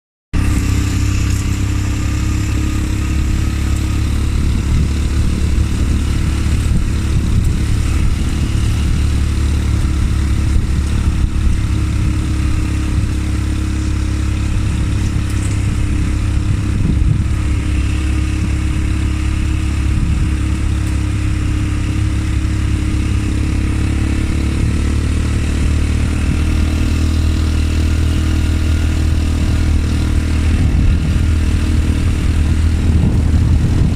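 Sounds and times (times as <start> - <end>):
atv engine running: 0.4 - 33.9.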